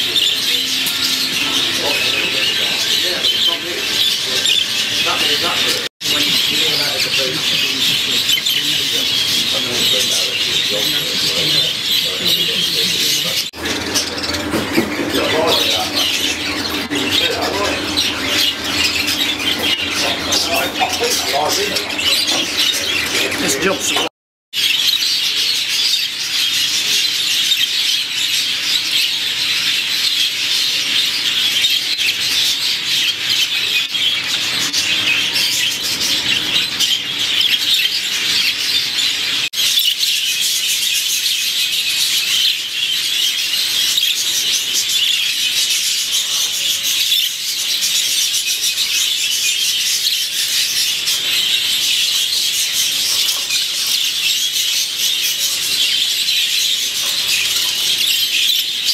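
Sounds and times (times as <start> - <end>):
budgerigars chattering and warbling: 0.0 - 58.9.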